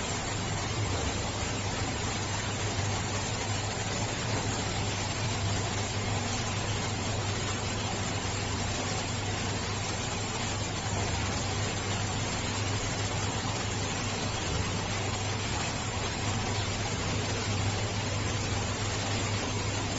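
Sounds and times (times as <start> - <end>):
aquarium pump hiss and hum: 0.0 - 19.9.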